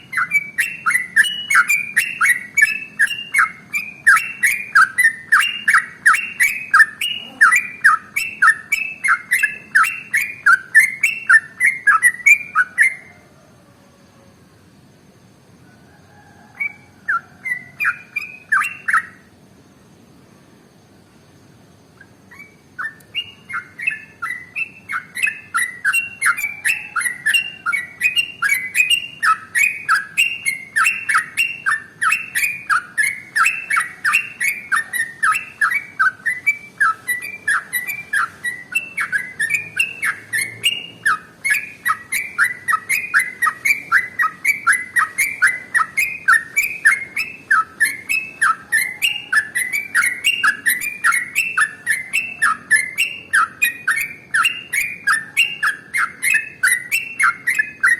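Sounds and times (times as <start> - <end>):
bird singing rapid notes: 0.0 - 13.2, 16.6 - 19.4, 21.2 - 57.9.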